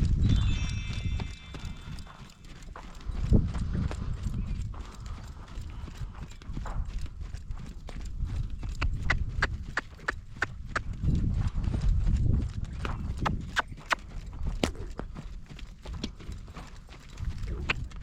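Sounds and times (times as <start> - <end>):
horse hooves trotting on dirt: 0.0 - 18.0.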